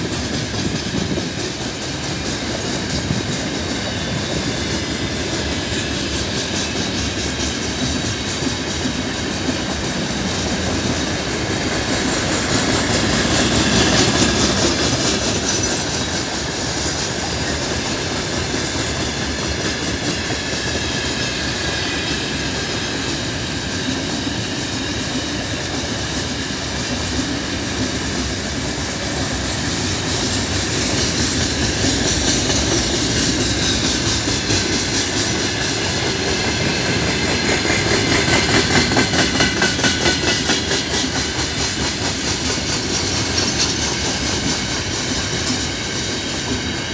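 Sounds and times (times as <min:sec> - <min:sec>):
freight train wheels on rails: 0:00.0 - 0:46.9.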